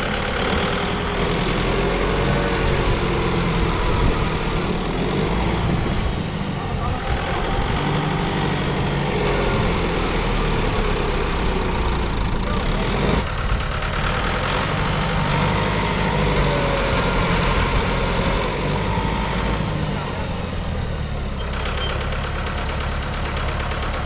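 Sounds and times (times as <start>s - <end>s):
tractor diesel engine straining: 0.0s - 24.0s.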